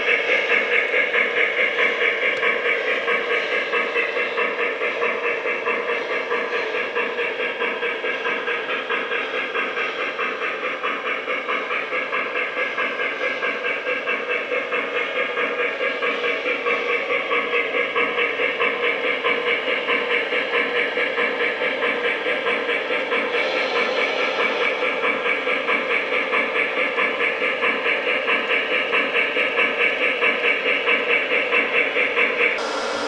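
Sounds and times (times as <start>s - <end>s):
model train motor hum: 0.0s - 33.0s.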